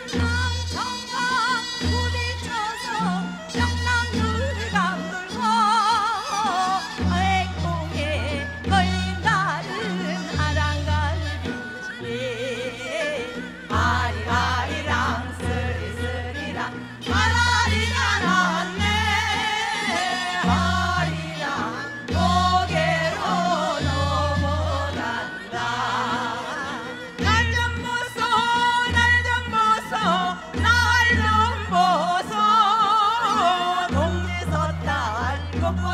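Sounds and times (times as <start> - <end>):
instrumental accompaniment with bass: 0.0 - 35.9
women singing folk song: 0.0 - 35.9.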